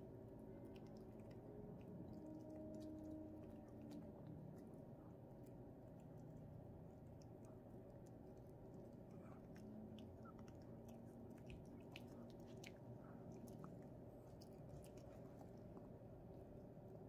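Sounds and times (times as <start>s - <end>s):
puppy chewing and licking: 0.1s - 16.4s.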